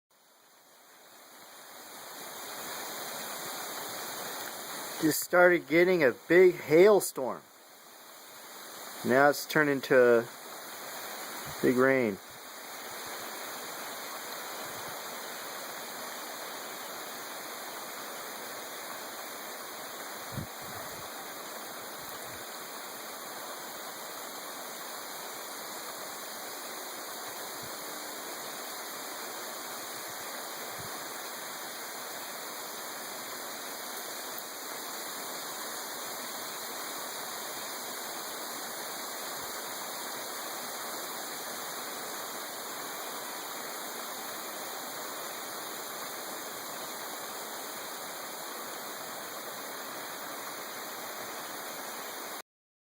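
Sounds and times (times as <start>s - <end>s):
heavy rain pouring: 0.2s - 52.4s.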